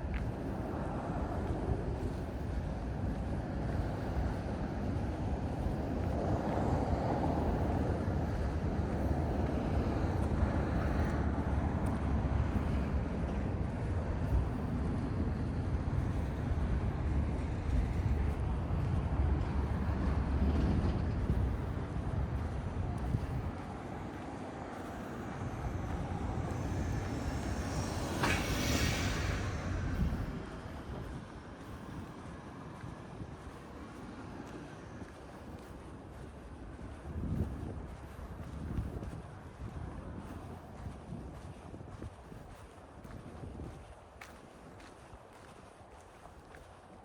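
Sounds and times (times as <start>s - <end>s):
road vehicles passing: 0.0s - 47.0s.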